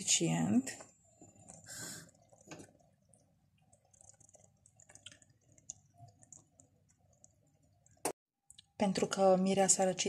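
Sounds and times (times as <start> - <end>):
syrup bubbling in a pot: 0.0 - 8.8.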